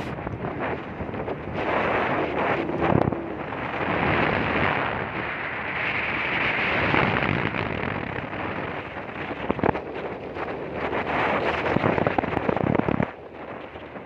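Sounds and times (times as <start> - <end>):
road and engine noise: 0.0 - 14.0
wind buffeting microphone: 0.0 - 14.0.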